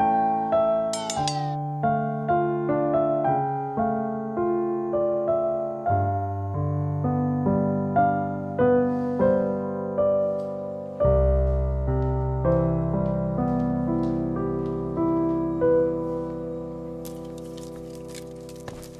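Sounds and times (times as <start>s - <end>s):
slow piano music: 0.0s - 18.9s.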